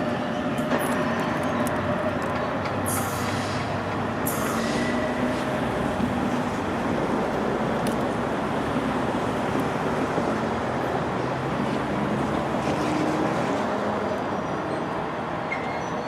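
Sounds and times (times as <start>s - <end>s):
commuter train rumbling: 0.0s - 16.0s.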